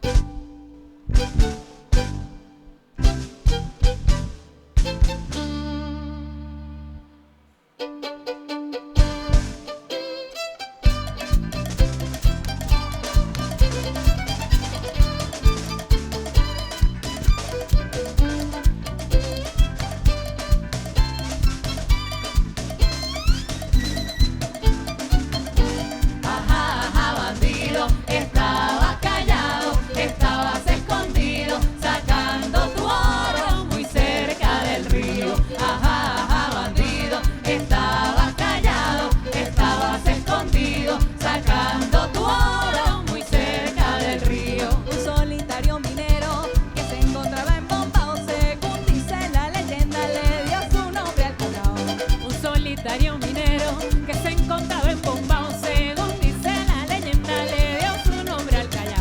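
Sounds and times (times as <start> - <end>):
live band music: 0.0 - 59.0.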